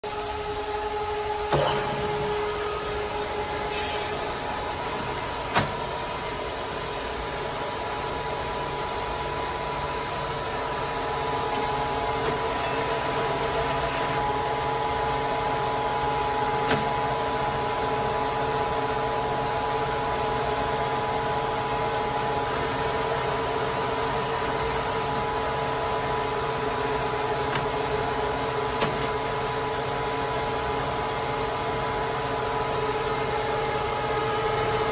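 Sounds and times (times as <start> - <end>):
milling machine motor whine: 0.1 - 34.9.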